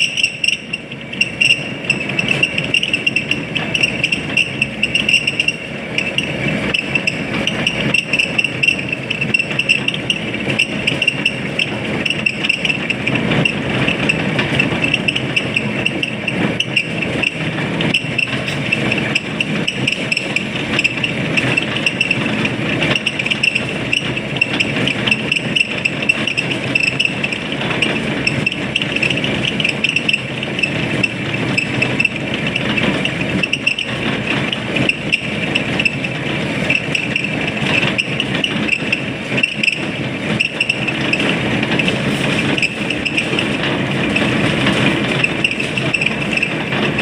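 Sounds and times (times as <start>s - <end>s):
lathe running: 0.0s - 47.0s.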